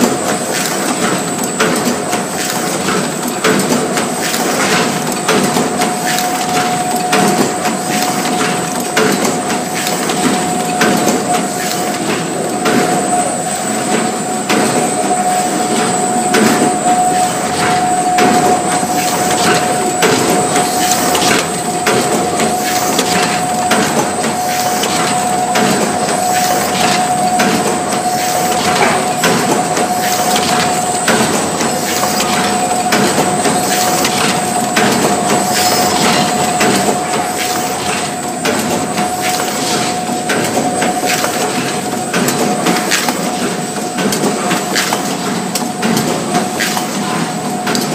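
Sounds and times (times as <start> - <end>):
machine clacks and knocks: 0.0 - 47.9
machine whine: 0.0 - 47.9.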